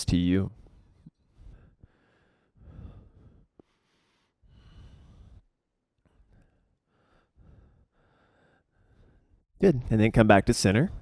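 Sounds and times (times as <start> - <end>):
faint slow breathing: 0.5 - 9.5.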